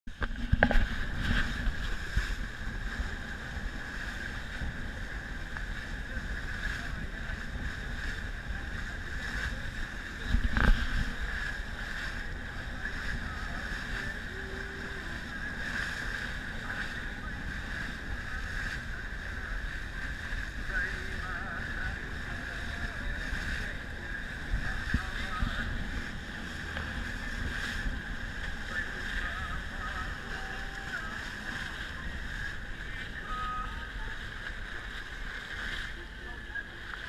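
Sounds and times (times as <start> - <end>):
boat engine running: 0.0 - 37.0
wind on microphone: 0.1 - 37.0.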